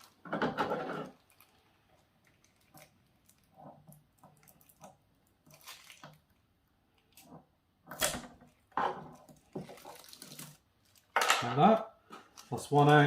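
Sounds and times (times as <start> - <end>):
tape crinkling rustles: 1.0 - 7.4, 8.4 - 13.0.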